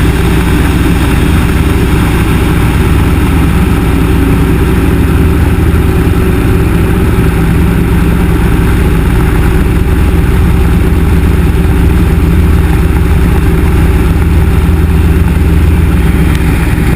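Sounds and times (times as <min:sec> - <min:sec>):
aircraft engine and propeller: 0:00.0 - 0:16.9.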